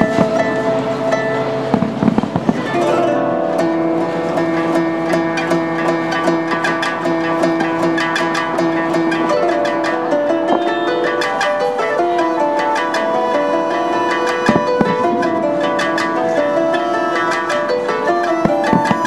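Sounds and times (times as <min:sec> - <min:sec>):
plucked koto music: 0:00.0 - 0:19.0.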